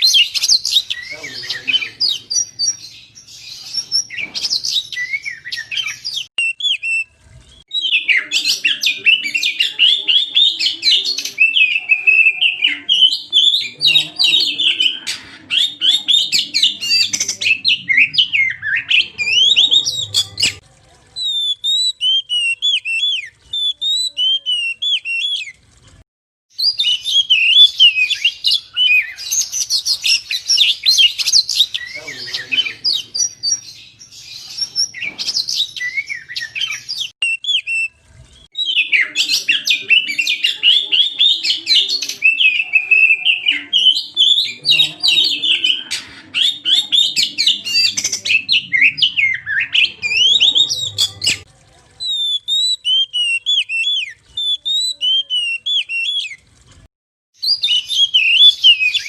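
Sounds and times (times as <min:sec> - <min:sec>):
magpie-robin singing: 0:00.0 - 0:20.6, 0:26.6 - 0:56.4, 0:57.4 - 0:59.0.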